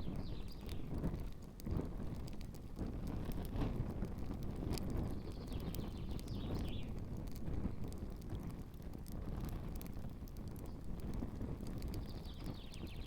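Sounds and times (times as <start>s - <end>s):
campfire crackling and popping: 0.0s - 13.0s
wind on microphone: 0.0s - 13.0s.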